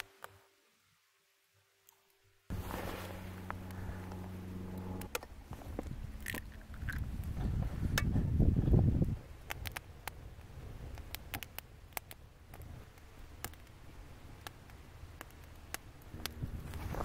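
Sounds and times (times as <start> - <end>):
campfire crackling: 1.2 - 17.0
faint low rumble: 2.4 - 17.0.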